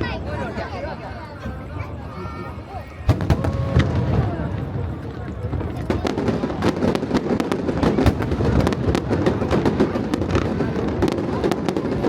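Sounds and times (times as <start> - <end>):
fireworks cracking and banging: 1.4 - 12.0.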